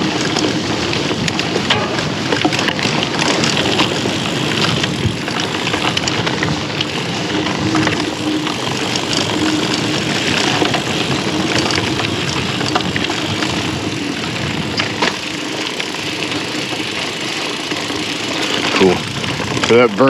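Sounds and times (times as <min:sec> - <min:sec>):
wind noise: 0:00.0 - 0:16.7, 0:17.9 - 0:20.0
bike chain and frame rattling: 0:00.0 - 0:20.0
bike tyre rumble on dirt: 0:00.0 - 0:20.0.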